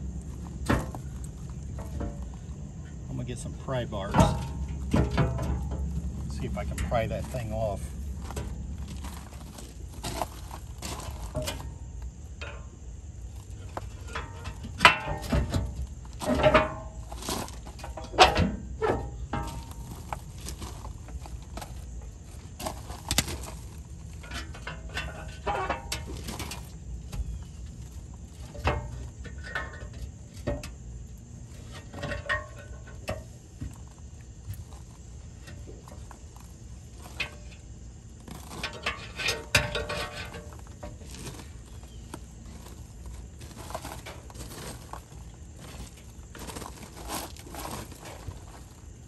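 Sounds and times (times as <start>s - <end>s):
metal clanks and scrapes: 0.0s - 49.0s.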